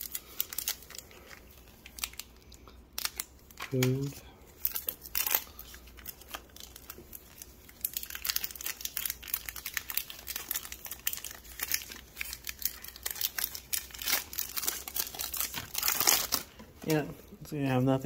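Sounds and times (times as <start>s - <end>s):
foil wrapper crinkling and tearing: 0.0s - 17.0s.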